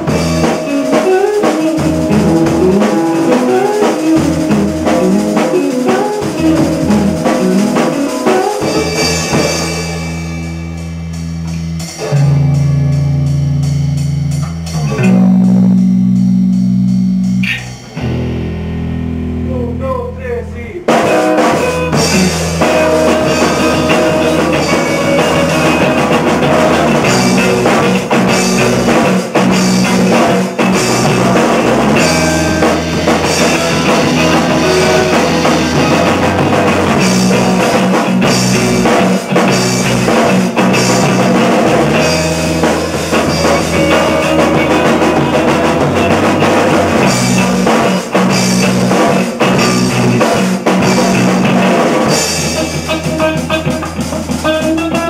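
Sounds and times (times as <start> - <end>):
steady drum beat: 0.0 - 18.5, 19.2 - 55.0
live rock band playing: 0.0 - 55.0.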